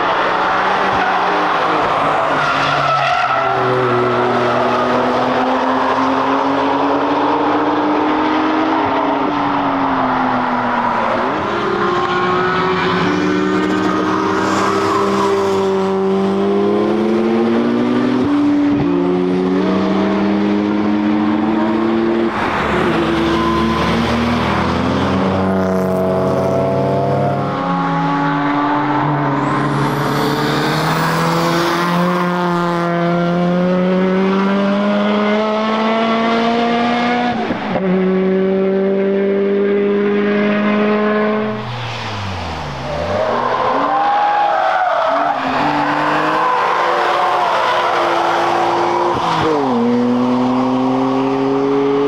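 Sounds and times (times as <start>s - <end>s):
race car engines accelerating: 0.0s - 52.0s.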